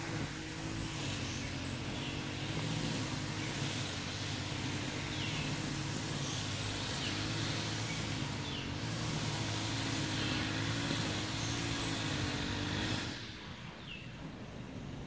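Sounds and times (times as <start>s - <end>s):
high hiss: 0.0s - 14.4s
engine humming: 0.0s - 15.0s.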